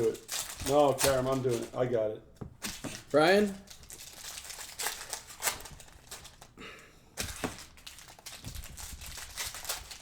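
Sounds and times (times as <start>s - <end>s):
plastic wrappers crinkling: 0.0s - 6.6s, 7.2s - 10.0s.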